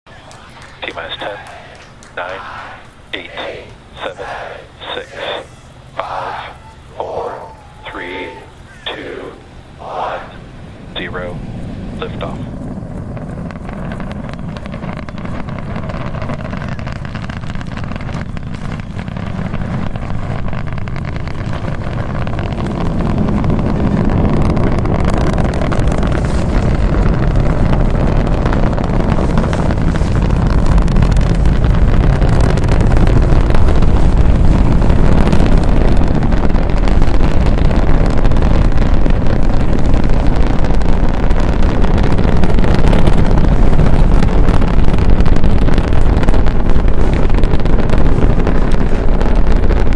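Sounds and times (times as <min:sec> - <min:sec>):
distant rocket launch rumble: 0:00.1 - 0:49.9.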